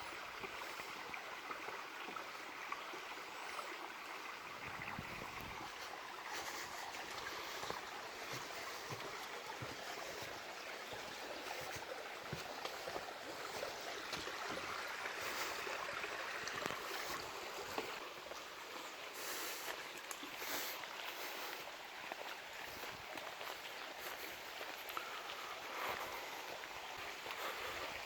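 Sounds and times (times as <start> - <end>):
stream running over stones: 0.0 - 28.0.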